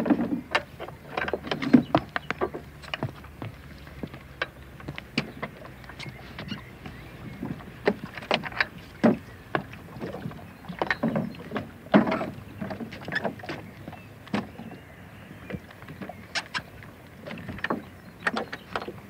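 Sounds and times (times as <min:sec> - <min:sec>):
distant birds calling: 0:00.0 - 0:19.0
gear knocking in a boat: 0:00.0 - 0:19.0.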